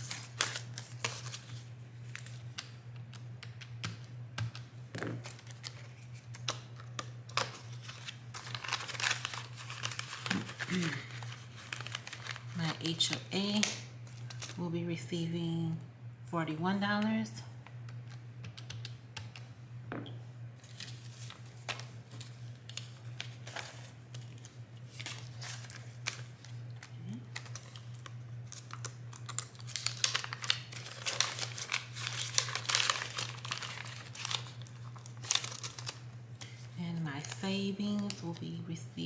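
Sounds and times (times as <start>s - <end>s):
banknotes and vinyl crinkling: 0.0s - 15.4s, 20.6s - 38.8s.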